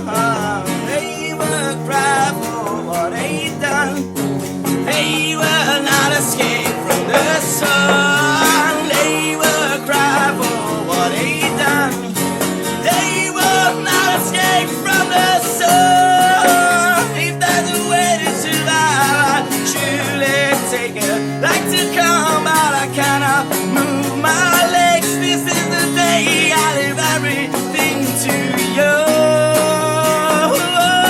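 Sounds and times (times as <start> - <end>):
bending guitar lead melody: 0.0 - 31.0
rock band playing grunge: 0.0 - 31.0.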